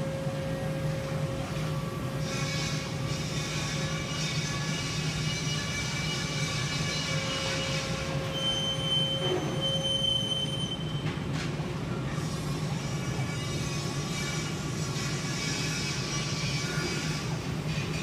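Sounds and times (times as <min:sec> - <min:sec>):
factory machinery hum: 0:00.0 - 0:18.0.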